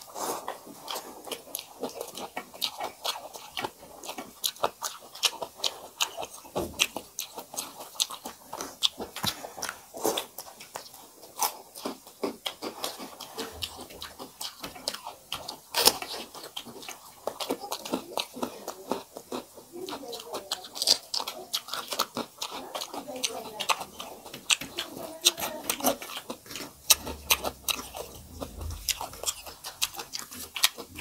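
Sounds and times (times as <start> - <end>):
chewing and lip smacking: 0.0 - 31.0.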